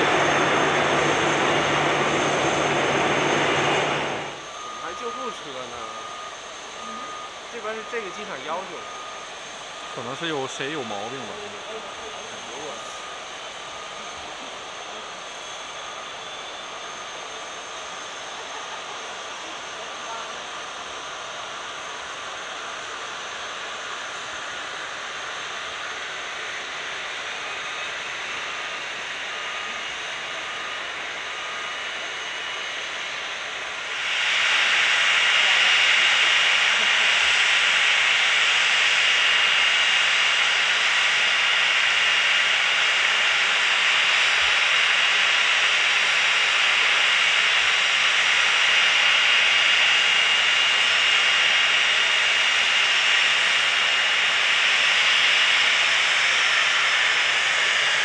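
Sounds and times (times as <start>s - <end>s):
jet engines hissing and whining: 0.0s - 58.0s.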